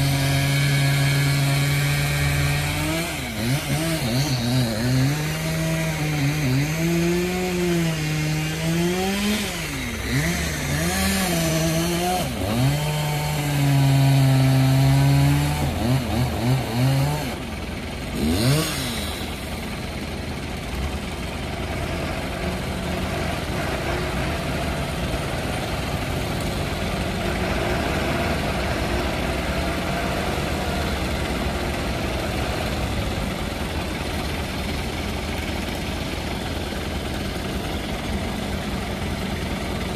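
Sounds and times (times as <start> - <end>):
engine revving: 0.0 - 19.8, 21.4 - 38.1
engines running: 0.0 - 39.9.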